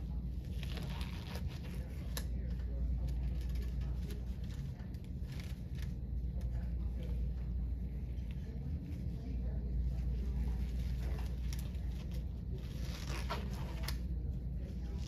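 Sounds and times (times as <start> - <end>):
gloves rustling: 0.0 - 15.0
steady low hum: 0.0 - 15.0.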